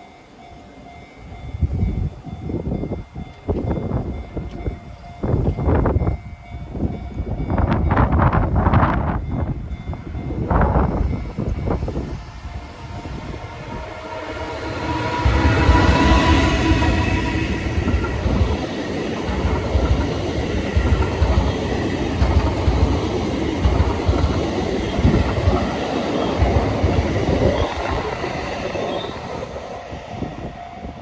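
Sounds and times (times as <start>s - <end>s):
train wheels rumbling and clacking: 1.6s - 31.0s.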